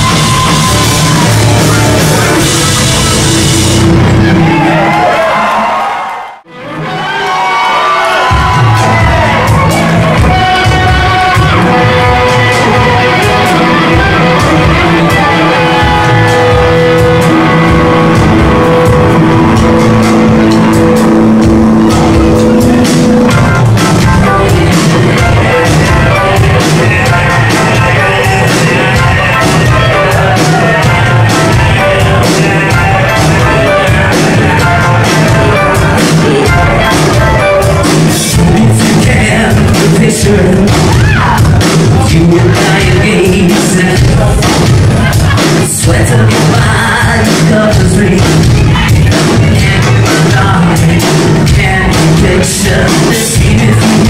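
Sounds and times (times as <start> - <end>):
drums: 0.0 - 54.0
keyboards: 0.0 - 54.0
singers: 0.0 - 54.0
electric guitar: 6.5 - 54.0.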